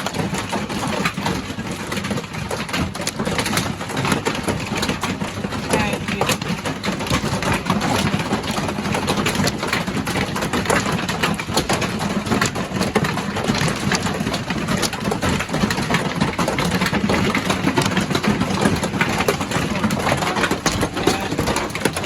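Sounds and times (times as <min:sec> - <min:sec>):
hail drumming on a roof: 0:00.0 - 0:22.0.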